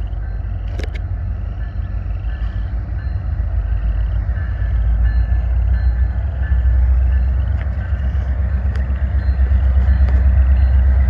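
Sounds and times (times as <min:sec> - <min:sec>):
distant diesel locomotive rumble: 0:00.0 - 0:11.0.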